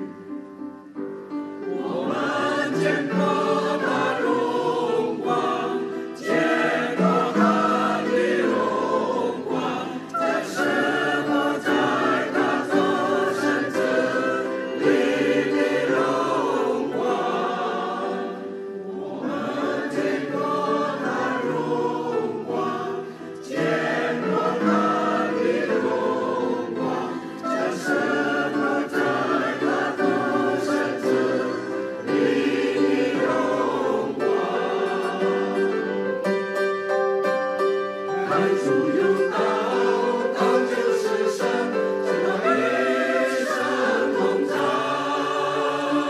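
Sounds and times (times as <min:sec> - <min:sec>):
church choir singing: 0:00.0 - 0:46.0.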